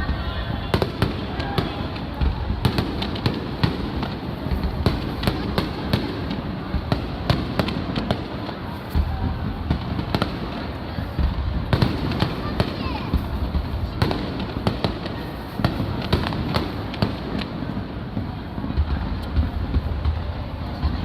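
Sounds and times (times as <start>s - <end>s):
firework booms: 0.0s - 21.0s
firework cracks and crackling: 0.0s - 21.0s.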